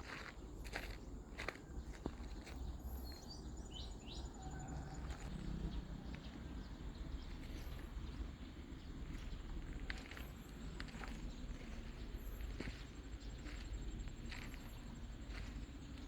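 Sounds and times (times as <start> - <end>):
outdoor background rumble: 0.0 - 16.0.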